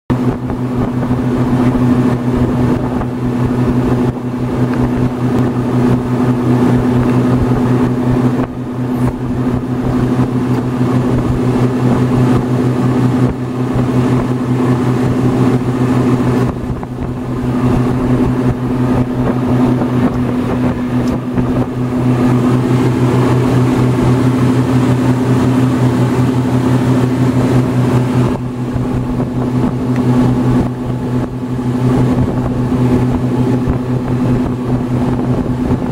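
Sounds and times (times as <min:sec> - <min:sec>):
ferry engine drone: 0:00.1 - 0:35.9
steady rushing noise: 0:00.1 - 0:35.9.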